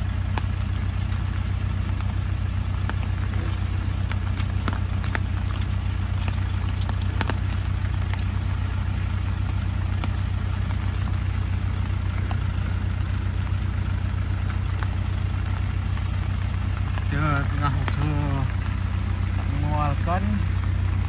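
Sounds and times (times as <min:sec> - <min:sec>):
pickup engine idling: 0:00.0 - 0:21.0.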